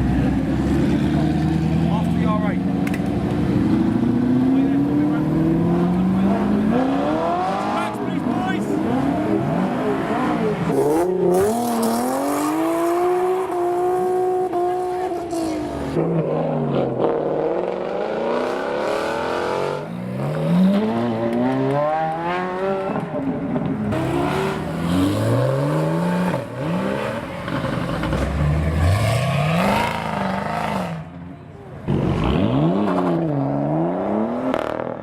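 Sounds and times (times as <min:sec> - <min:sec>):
car engine revving: 0:00.0 - 0:31.2.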